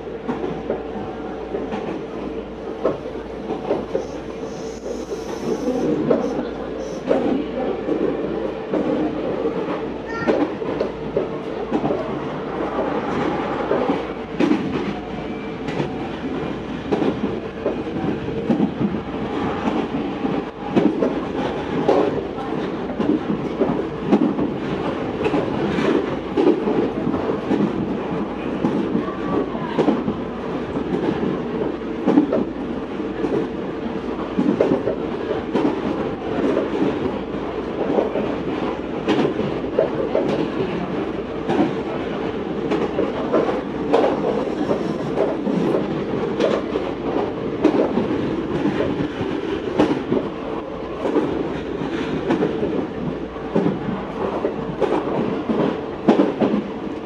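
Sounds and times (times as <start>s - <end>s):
constant train hum: 0.0s - 57.0s
rail clicks: 0.0s - 57.0s
train wheels rumbling on rail: 0.0s - 57.0s.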